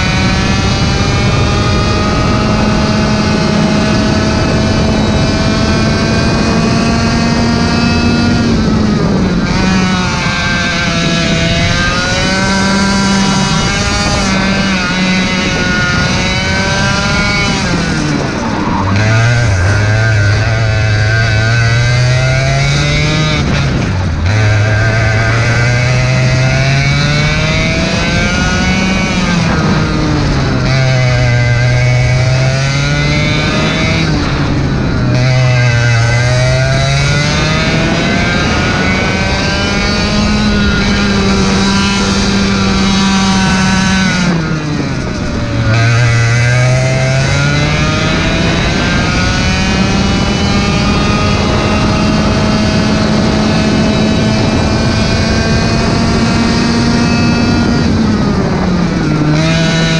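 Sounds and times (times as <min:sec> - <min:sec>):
kart engine revving: 0:00.0 - 0:59.9
wind noise: 0:00.0 - 0:59.9.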